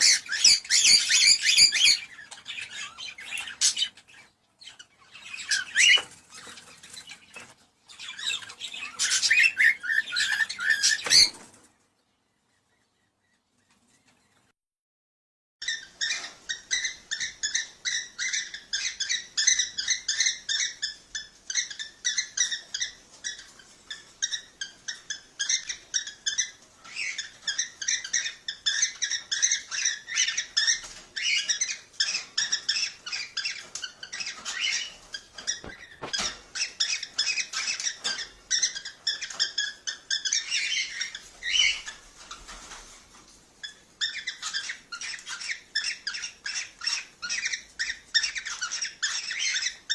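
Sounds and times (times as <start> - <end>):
cockatiels chirping: 0.0 - 11.5, 15.6 - 49.9.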